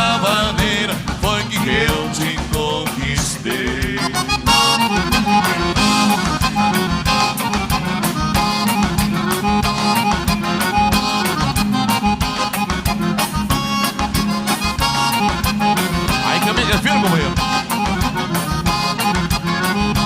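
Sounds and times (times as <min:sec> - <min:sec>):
accordion dance music: 0:00.0 - 0:20.0.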